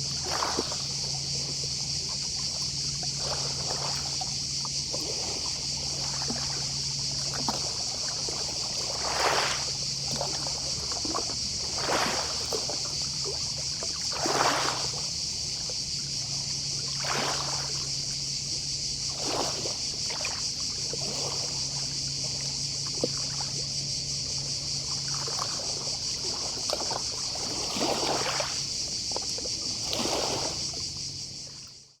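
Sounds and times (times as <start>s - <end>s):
distant cicadas chorus: 0.0s - 32.0s
small waves lapping on shore: 0.0s - 32.0s.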